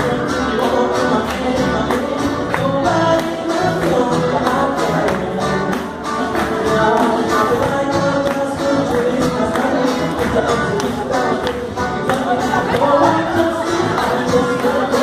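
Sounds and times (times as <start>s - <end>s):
congas: 0.0s - 15.0s
guitar: 0.0s - 15.0s
man singing into microphone: 0.0s - 15.0s.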